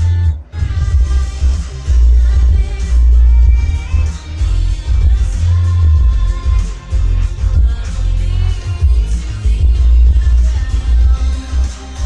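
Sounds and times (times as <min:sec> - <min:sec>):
loud music with deep bass: 0:00.0 - 0:12.0.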